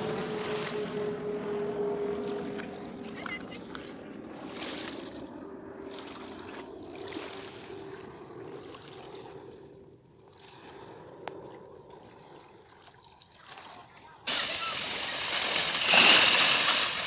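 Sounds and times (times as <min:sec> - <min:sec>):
waves lapping on shore: 0:00.0 - 0:09.6, 0:12.1 - 0:17.0.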